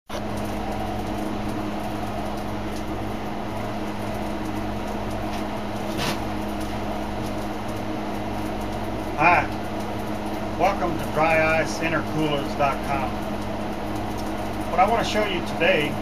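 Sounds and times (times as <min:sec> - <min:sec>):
mechanical hum: 0:00.1 - 0:16.0.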